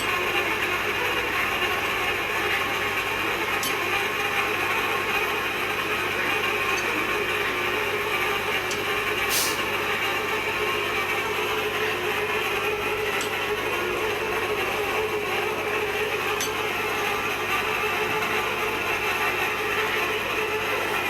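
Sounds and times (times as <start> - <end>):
steady mechanical noise: 0.0 - 21.0.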